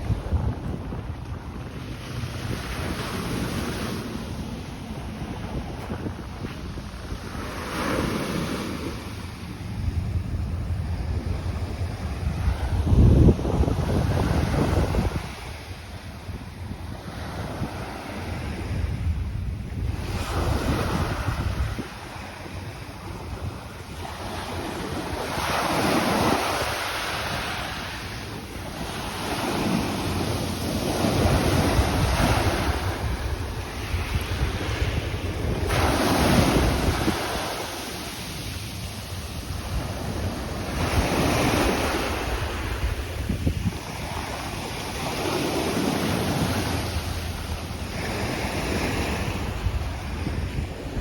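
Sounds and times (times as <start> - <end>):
waves breaking on a beach: 0.0 - 51.0
wind rumbling on microphone: 0.0 - 51.0.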